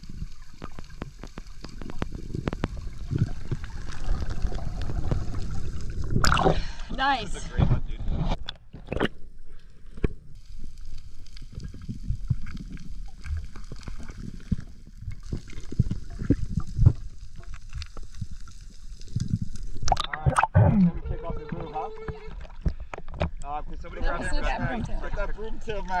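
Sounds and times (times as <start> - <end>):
water sloshing and gurgling: 0.0 - 23.6.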